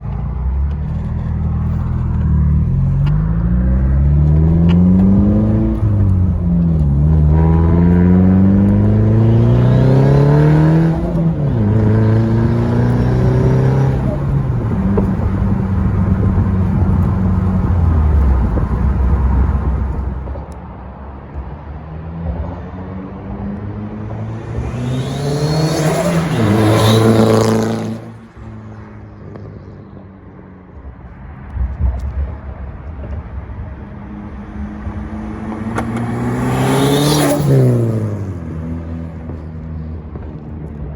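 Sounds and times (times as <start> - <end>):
car engine accelerating: 0.0 - 20.6, 22.2 - 28.5, 32.9 - 40.4.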